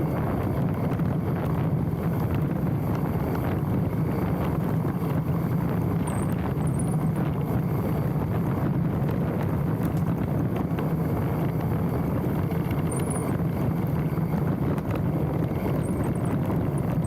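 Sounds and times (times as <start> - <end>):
bike rattling over rough ground: 0.0 - 17.0
bike tyre roar on dirt: 0.0 - 17.0
wind buffeting microphone: 0.0 - 17.0.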